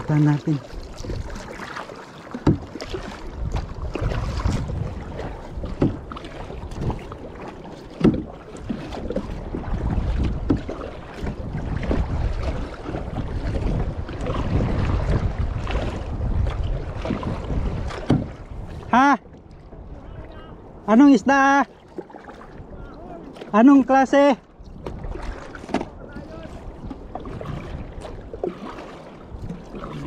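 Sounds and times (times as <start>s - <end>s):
wind on microphone: 0.0s - 1.7s, 2.5s - 7.4s, 8.1s - 20.9s, 24.6s - 30.0s
water washing along hull: 0.0s - 30.0s.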